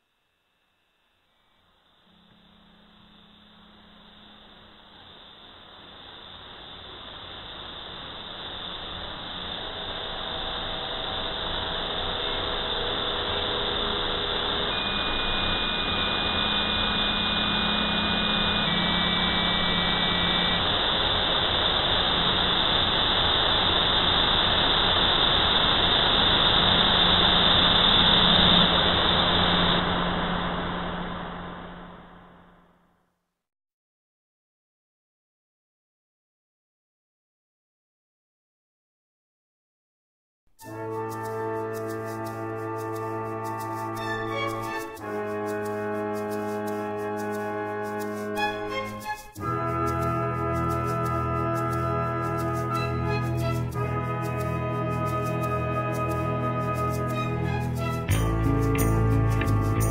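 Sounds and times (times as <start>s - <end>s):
electronic noise swell: 0.0s - 32.8s, 40.6s - 59.9s
low hum: 0.0s - 33.0s, 43.0s - 59.9s.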